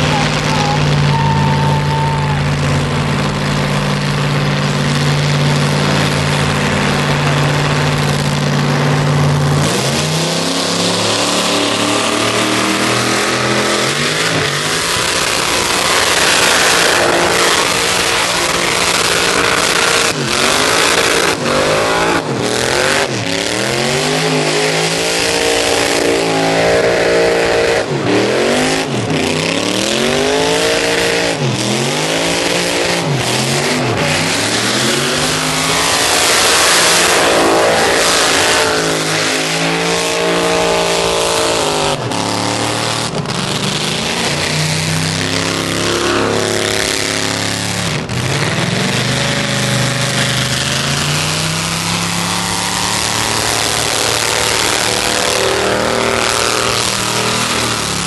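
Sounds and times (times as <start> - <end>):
spinning tyres hissing: 0.0 - 58.0
truck engine revving: 0.0 - 58.0.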